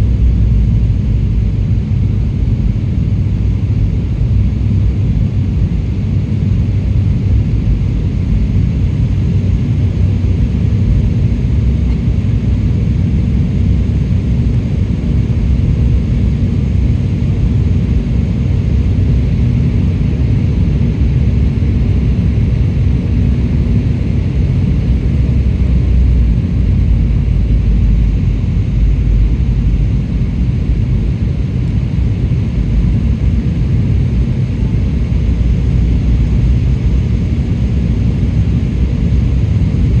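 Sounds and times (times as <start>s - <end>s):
faint steady hum: 0.0s - 40.0s
jet engines rumbling in cabin: 0.0s - 40.0s.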